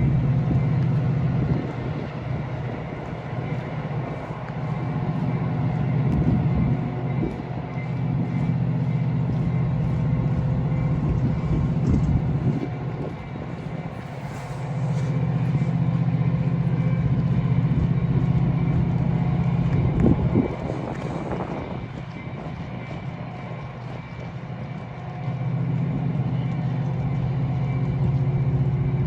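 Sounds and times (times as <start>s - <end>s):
heavy engine rumbling: 0.0s - 29.0s.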